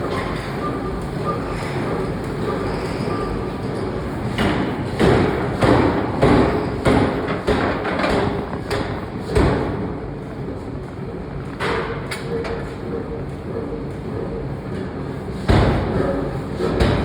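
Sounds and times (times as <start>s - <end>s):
factory machine hum: 0.0s - 17.0s.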